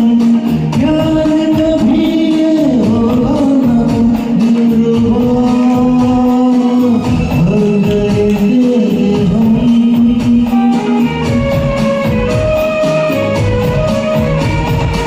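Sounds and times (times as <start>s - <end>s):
instrumental accompaniment with beat: 0.0s - 15.0s.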